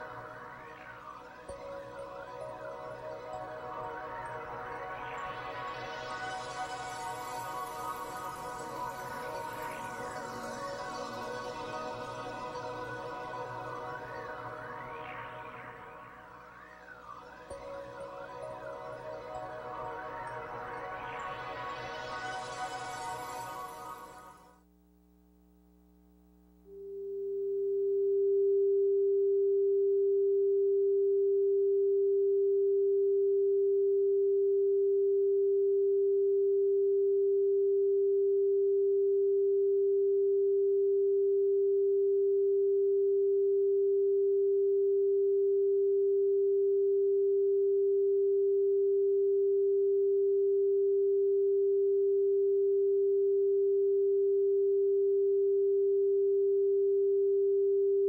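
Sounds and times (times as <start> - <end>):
steady sine-wave test tone: 0.0 - 58.0.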